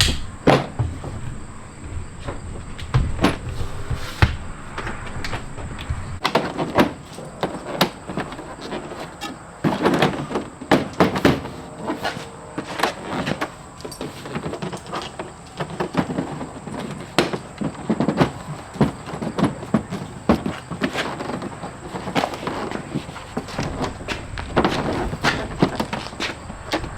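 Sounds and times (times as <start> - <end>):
knocks clunks and rattles: 0.0 - 11.7, 12.6 - 26.9.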